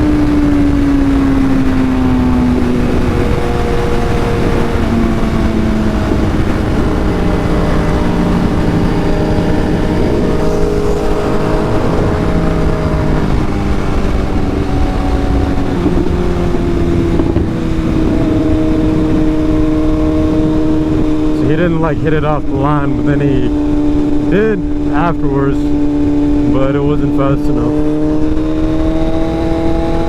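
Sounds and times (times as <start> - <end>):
motorcycle engine revving: 0.0 - 30.0
wind noise on microphone: 0.0 - 30.0.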